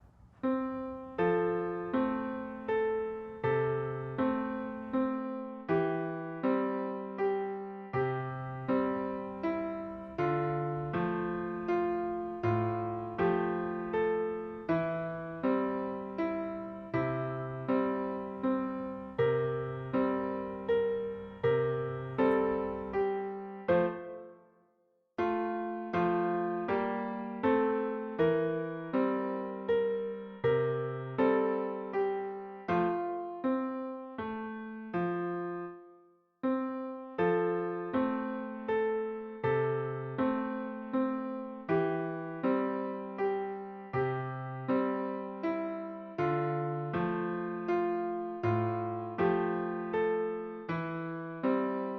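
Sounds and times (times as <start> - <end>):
electric piano chords: 0.0 - 24.6, 25.2 - 51.9.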